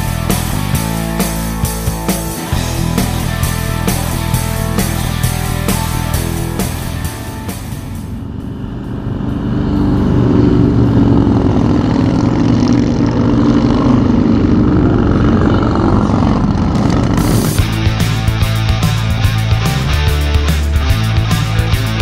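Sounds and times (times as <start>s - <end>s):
motorcycles riding past: 0.0s - 22.0s.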